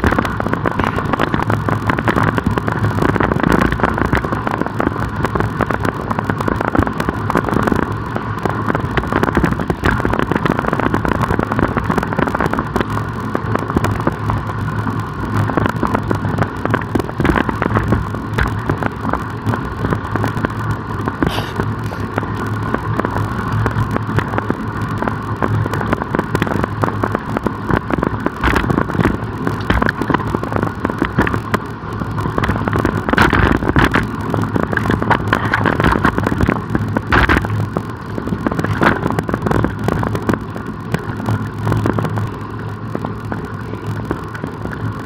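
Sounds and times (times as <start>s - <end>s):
bicycle tyre road noise: 0.0s - 45.0s
wind rushing over microphone: 0.0s - 45.0s.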